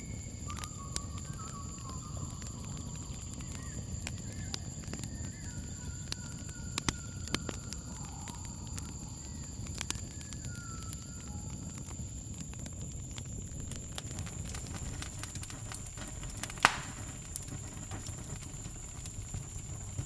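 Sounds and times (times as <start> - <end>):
campfire crackling: 0.0 - 20.0
crickets chirring: 0.0 - 20.0.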